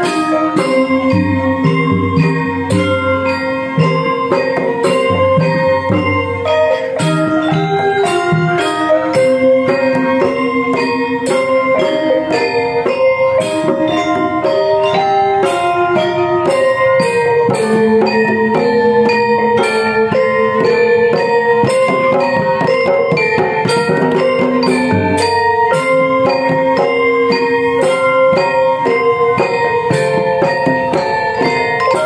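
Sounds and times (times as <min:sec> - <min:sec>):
gamelan metallophones ringing: 0:00.0 - 0:32.0
sharp percussive strokes: 0:00.0 - 0:32.0.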